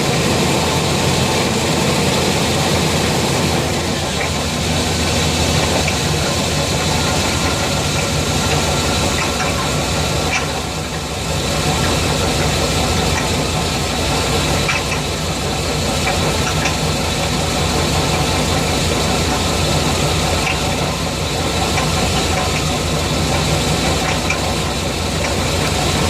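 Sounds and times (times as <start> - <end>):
engine running with rapid knock: 0.0 - 26.0.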